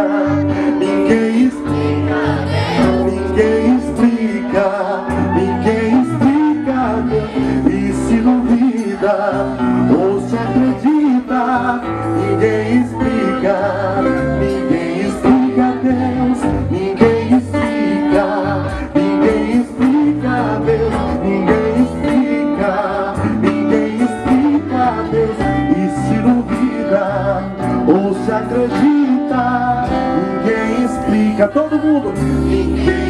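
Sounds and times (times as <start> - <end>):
band with bass and guitar: 0.0 - 33.0
person singing: 0.0 - 33.0.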